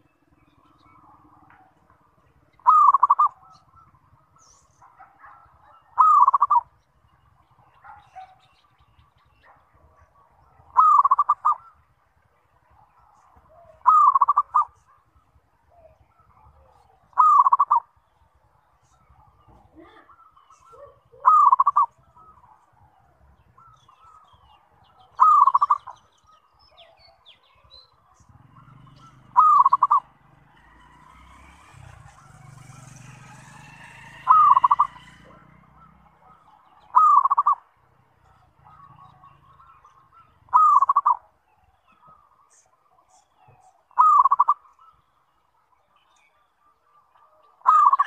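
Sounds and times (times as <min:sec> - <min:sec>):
dove cooing: 0:00.0 - 0:08.4, 0:09.2 - 0:11.9, 0:12.7 - 0:18.0, 0:18.9 - 0:45.0, 0:47.1 - 0:48.0.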